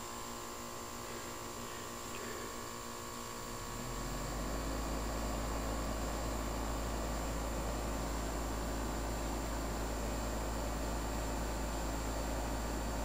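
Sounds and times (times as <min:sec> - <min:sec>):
air conditioner unit humming: 0:00.0 - 0:13.0
condenser fan rushing air: 0:00.0 - 0:13.0.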